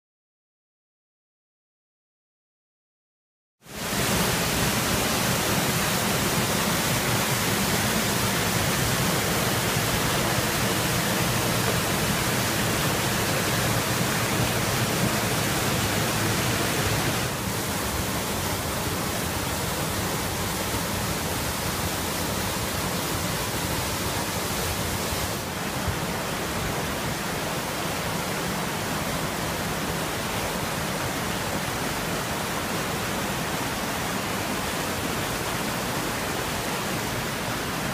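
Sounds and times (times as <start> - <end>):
waterfall and rushing creek: 3.6 - 37.9.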